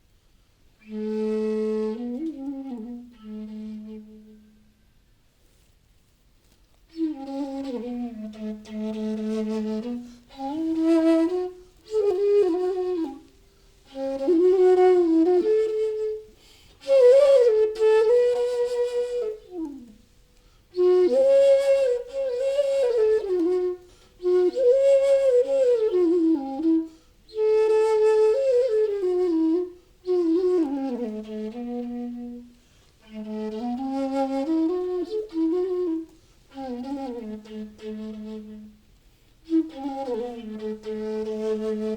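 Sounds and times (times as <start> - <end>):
bamboo flute melody: 0.8 - 4.8, 6.8 - 41.9.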